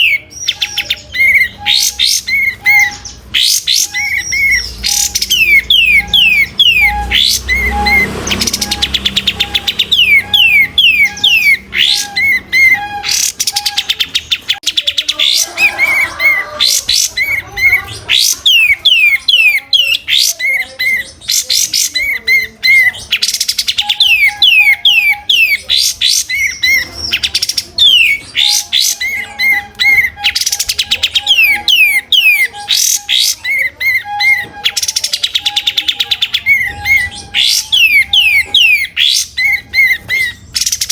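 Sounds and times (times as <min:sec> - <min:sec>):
songbird singing chirps and trills: 0:00.0 - 0:40.9.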